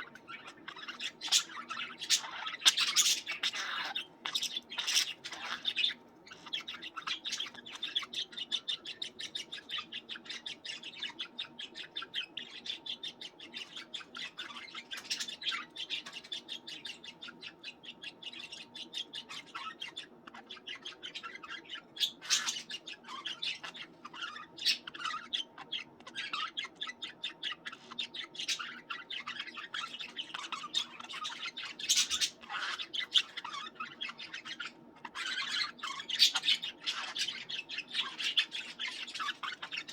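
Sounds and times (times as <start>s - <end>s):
budgerigar squawks: 0.0s - 39.9s
budgerigars chattering and chirping: 0.0s - 39.9s.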